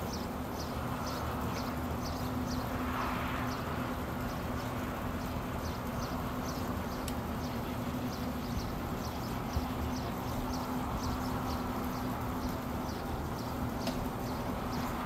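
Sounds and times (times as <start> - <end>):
small bird chirping: 0.0 - 15.0
steady low hum: 0.0 - 15.0.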